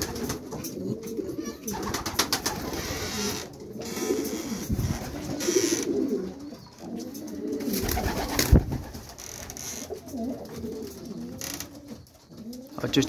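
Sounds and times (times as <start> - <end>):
wings flapping: 0.0 - 0.7, 1.6 - 6.4, 7.3 - 13.0
pigeons cooing: 0.0 - 13.0.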